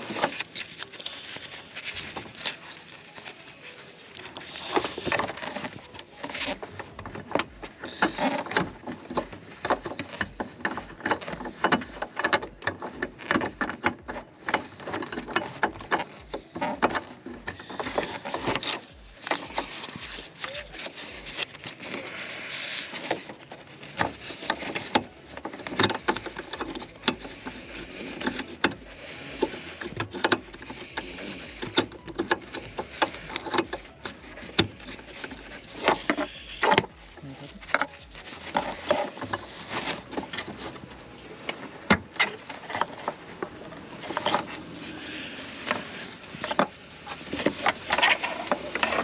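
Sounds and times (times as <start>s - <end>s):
plastic clicks and rubbing: 0.0s - 49.0s.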